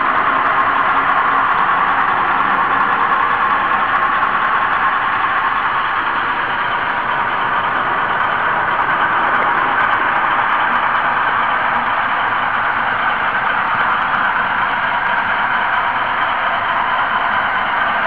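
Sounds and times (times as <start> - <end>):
model train whirring: 0.0 - 18.0.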